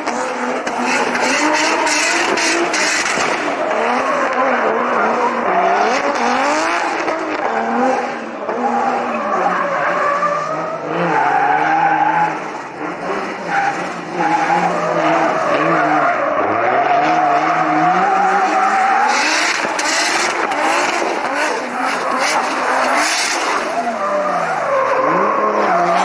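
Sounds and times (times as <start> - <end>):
car engine revving: 0.0 - 26.0
tyres skidding: 0.0 - 26.0.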